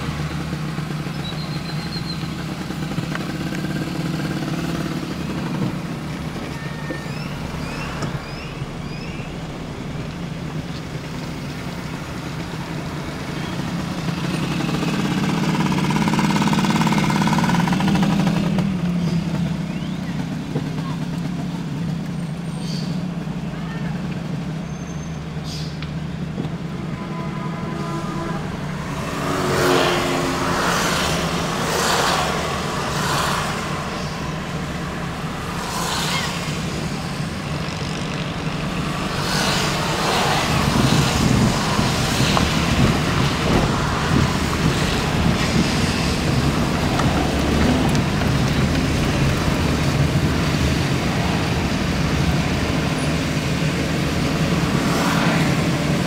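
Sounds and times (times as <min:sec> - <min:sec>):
tyres rushing on wet road: 0:00.0 - 0:56.0.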